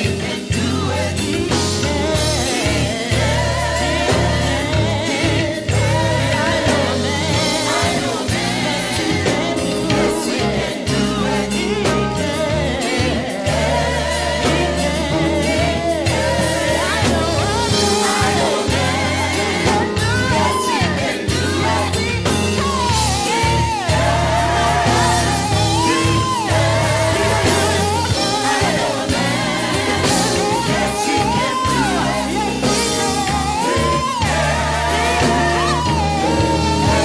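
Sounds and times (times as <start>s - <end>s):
drums: 0.0s - 37.0s
gospel singing: 0.0s - 37.0s
steady bass: 0.0s - 37.0s.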